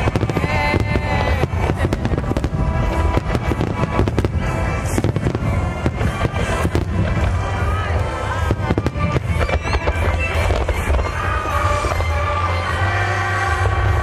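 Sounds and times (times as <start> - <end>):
fireworks bursting: 0.0 - 14.0
song playing: 0.0 - 14.0.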